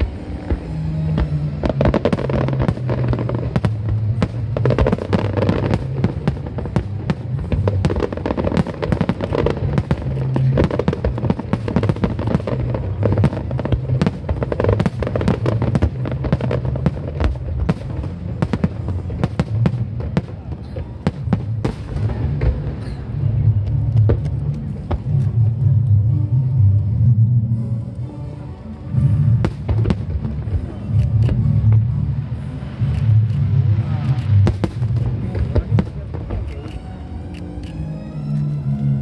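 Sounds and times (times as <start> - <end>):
fireworks bangs and crackles: 0.0 - 27.4, 28.9 - 37.3.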